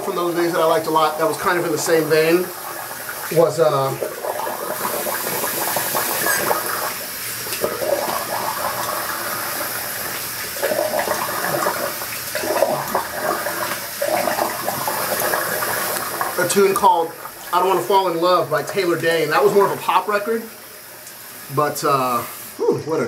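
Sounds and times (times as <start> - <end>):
tap water running into sink: 0.0 - 22.6
water splashing: 0.0 - 22.6.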